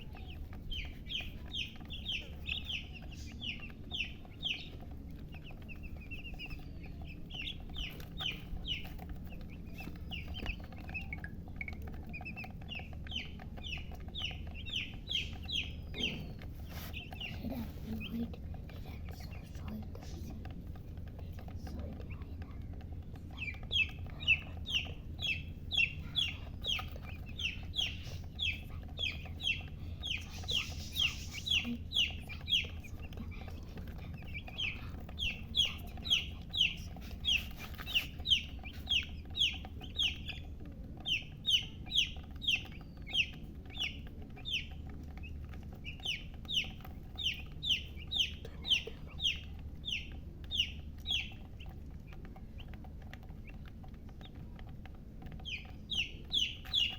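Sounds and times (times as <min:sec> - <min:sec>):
baby chicks peeping: 0:00.0 - 0:56.9.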